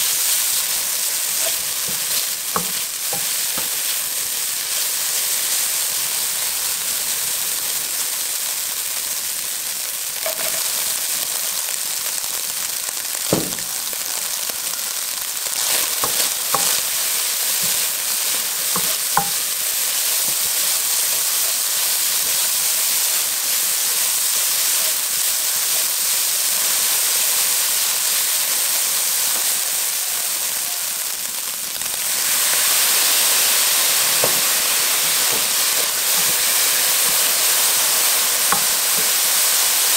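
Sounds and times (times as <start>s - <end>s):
meat sizzling in wok: 0.0s - 39.9s.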